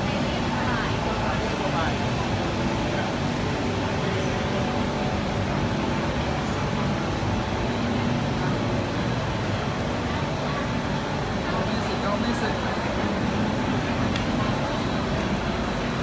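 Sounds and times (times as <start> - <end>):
city traffic hum: 0.0 - 16.0.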